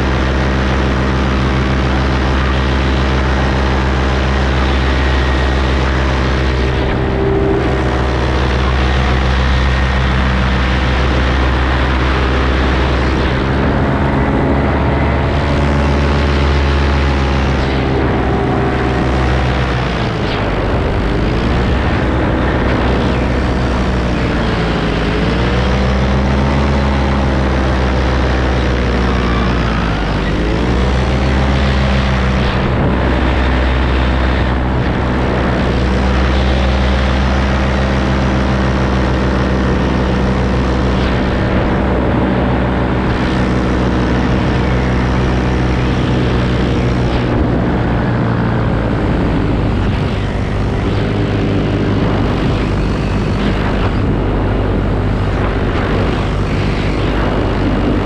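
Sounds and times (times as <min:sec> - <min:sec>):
paramotor engine and propeller: 0:00.0 - 0:58.0.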